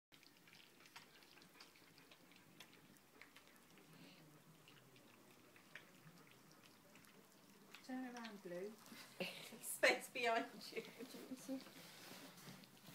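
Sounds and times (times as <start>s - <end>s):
puppies lapping from metal bowls: 0.1s - 12.9s.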